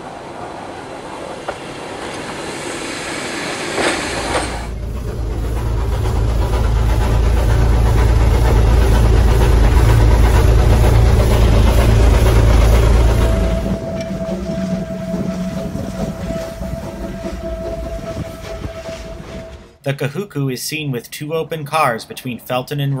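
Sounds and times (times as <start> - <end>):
noisy rush of train: 0.0 - 19.8
train rumbling: 0.0 - 23.0.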